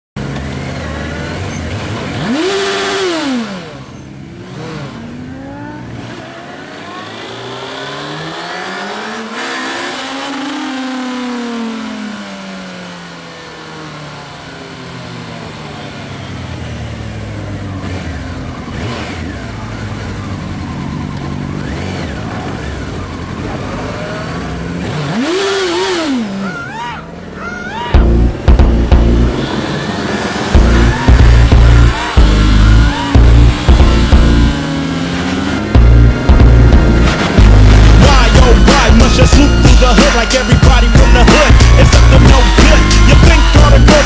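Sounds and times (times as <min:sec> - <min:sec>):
motorcycle engine revving: 0:00.2 - 0:27.4, 0:28.0 - 0:44.0.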